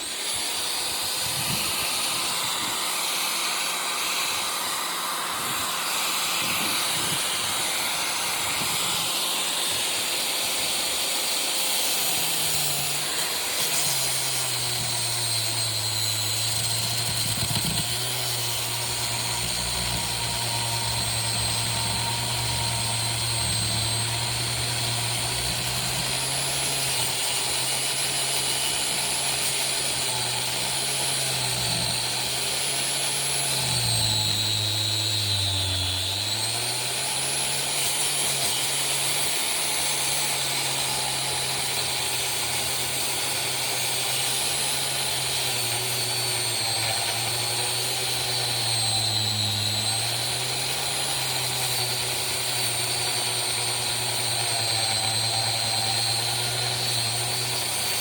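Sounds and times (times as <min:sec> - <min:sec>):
angle grinder cutting metal: 0:00.0 - 0:58.0.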